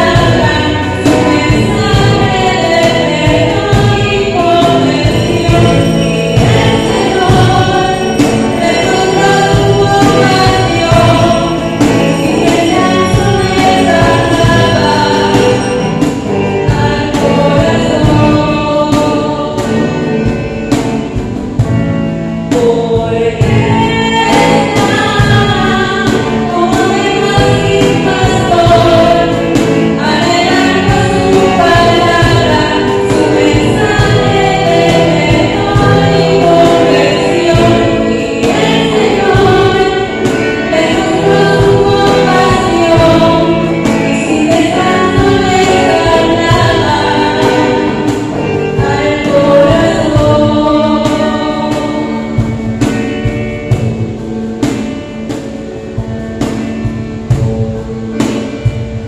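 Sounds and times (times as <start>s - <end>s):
group singing a hymn: 0.0s - 21.7s, 22.4s - 53.8s
keyboard chords: 0.0s - 59.0s
strummed electric guitar: 0.0s - 59.0s.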